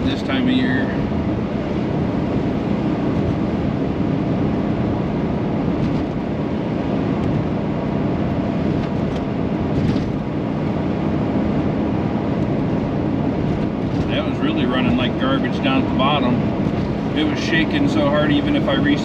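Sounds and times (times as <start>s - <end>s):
tyre and road noise: 0.0s - 19.0s
van engine running: 0.0s - 19.0s.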